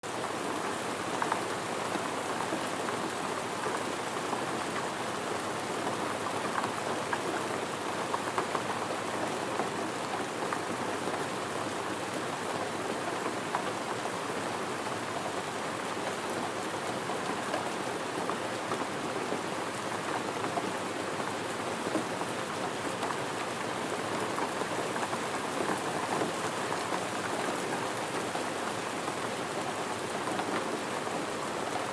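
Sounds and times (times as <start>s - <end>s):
rain pattering: 0.1s - 31.9s.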